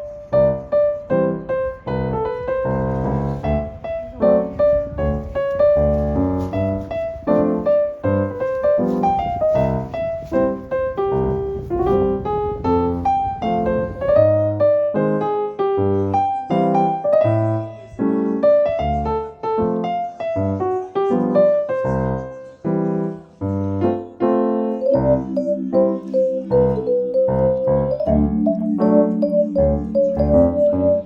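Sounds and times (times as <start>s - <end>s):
bouncy piano melody: 0.0s - 31.0s.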